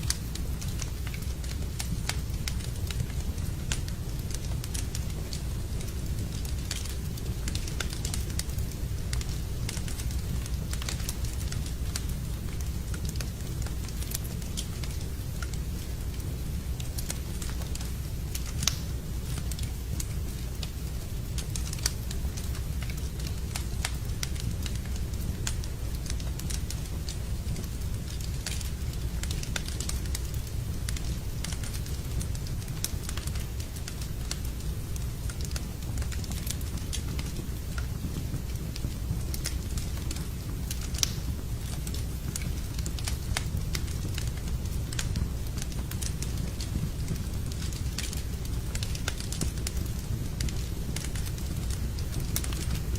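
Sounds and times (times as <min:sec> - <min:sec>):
low fire rumble: 0:00.0 - 0:52.9
wood fire crackling and popping: 0:00.0 - 0:52.9.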